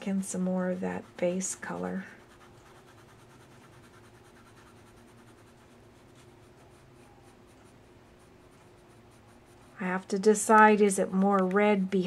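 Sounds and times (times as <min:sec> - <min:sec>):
coloured pencil scratching on paper: 0:00.0 - 0:10.4.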